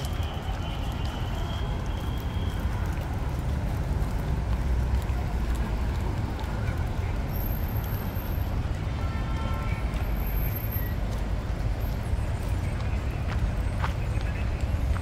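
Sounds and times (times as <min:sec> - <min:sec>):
faint voices of passers-by: 0:00.0 - 0:15.0
road traffic rumble: 0:00.0 - 0:15.0.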